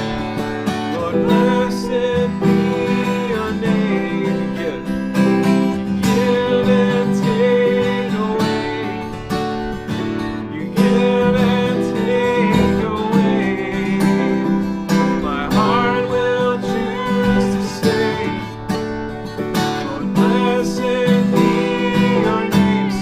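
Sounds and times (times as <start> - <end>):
strummed worship music: 0.0 - 23.0.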